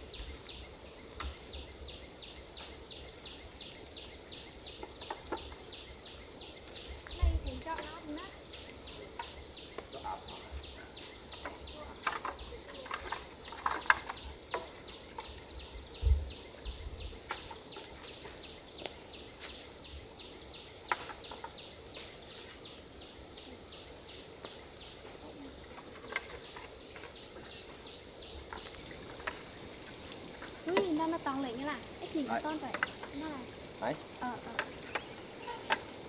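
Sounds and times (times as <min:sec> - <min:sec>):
cricket-like chirping: 0:00.0 - 0:36.0
insect high-pitched drone: 0:00.0 - 0:36.0.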